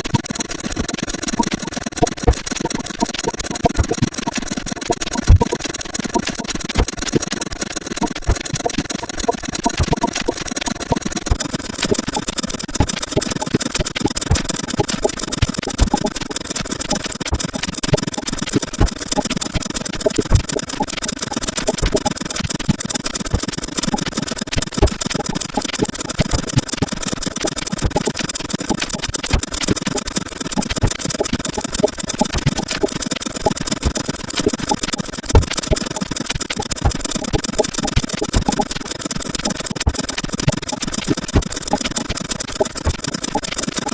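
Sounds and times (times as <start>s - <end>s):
sped-up clicks and sound effects: 0.0s - 43.9s.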